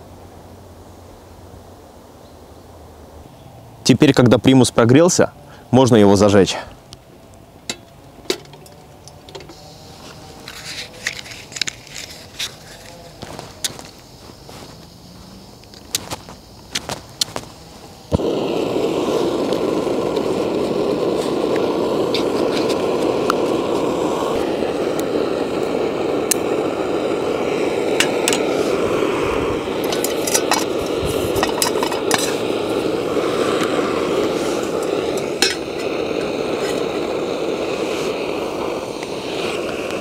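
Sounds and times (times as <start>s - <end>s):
camping stove burner rushing: 7.6s - 40.0s.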